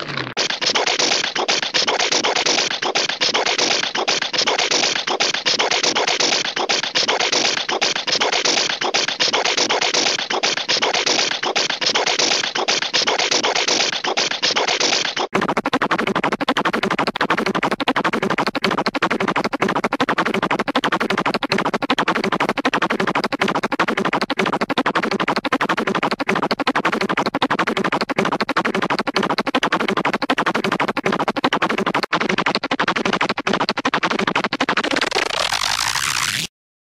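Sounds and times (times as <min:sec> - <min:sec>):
cartoon sputter effect: 0:00.0 - 0:36.5.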